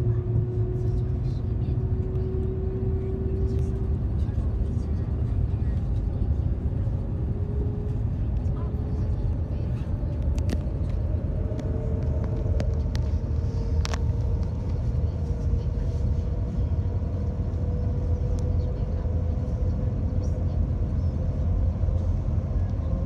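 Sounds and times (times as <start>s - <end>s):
train cabin low rumble: 0.0s - 23.0s.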